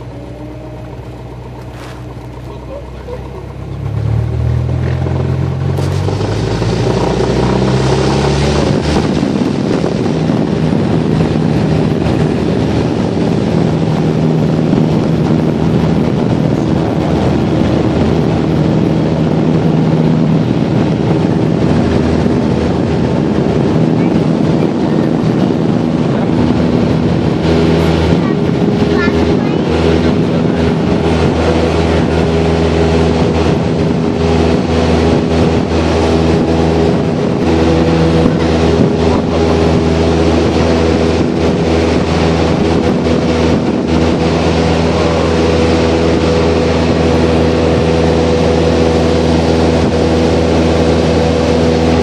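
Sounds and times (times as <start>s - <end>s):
aircraft engine and propeller: 0.0s - 52.0s.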